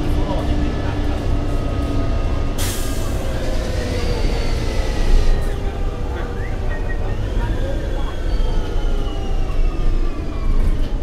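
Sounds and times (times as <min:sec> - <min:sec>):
bus engine rumble with rattles: 0:00.0 - 0:11.0.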